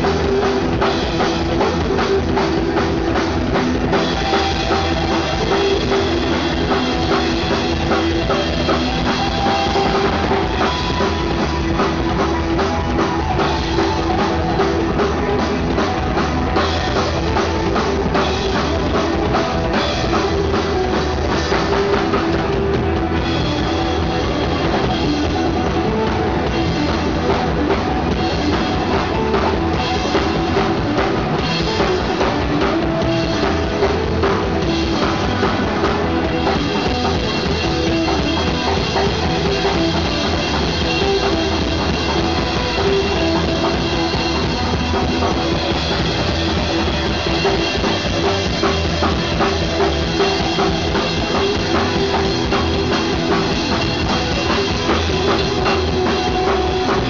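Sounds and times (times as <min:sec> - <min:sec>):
fast drum hits: 0:00.0 - 0:57.0
rock band playing: 0:00.0 - 0:57.0.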